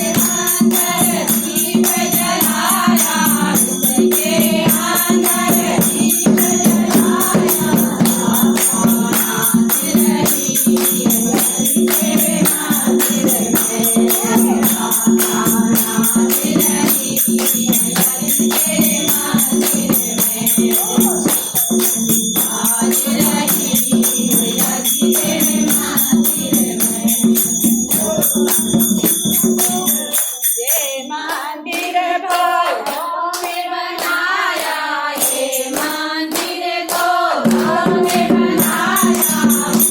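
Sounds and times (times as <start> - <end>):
group singing: 0.0 - 39.9.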